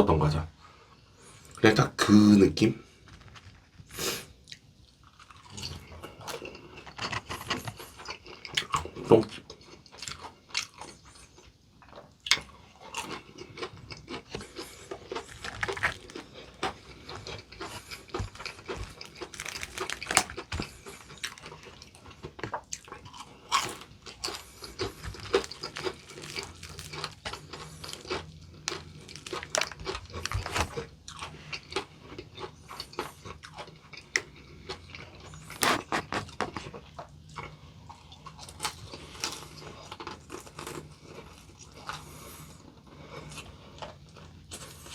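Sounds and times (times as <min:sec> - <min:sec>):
crunching fried chicken: 0:03.0 - 0:44.9
chewing: 0:04.4 - 0:44.9.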